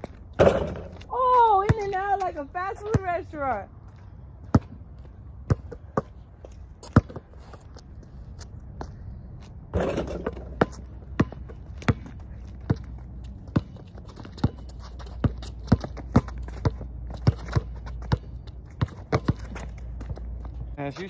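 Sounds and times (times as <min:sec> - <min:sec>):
basketball bouncing on concrete: 0:00.0 - 0:07.3, 0:09.7 - 0:21.0.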